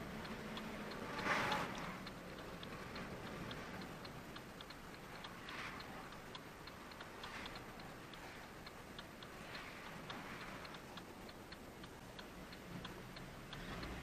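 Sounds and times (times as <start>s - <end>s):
faint even ticking: 0.0s - 14.0s
low background hiss: 0.0s - 14.0s.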